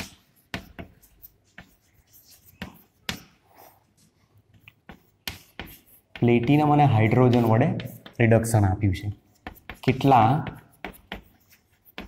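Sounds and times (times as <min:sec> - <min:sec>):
chalk scratching: 0:00.0 - 0:12.0
chalk tapping on blackboard: 0:00.0 - 0:12.0.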